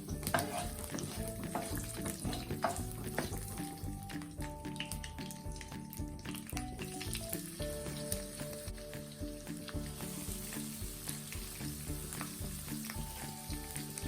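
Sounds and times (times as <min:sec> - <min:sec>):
food sizzling in hot oil: 0:00.0 - 0:14.0
stirring taps: 0:00.0 - 0:14.0.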